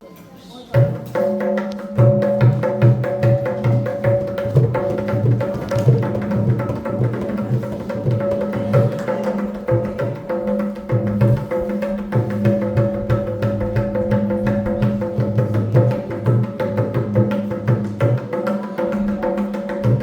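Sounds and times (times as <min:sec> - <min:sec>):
low drum beat: 0:01.9 - 0:18.2.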